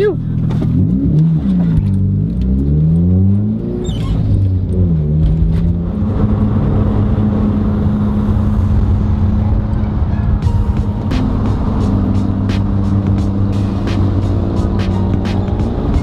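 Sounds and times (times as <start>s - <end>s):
road noise: 0.0s - 16.0s
car engine pulling through gears: 0.2s - 16.0s.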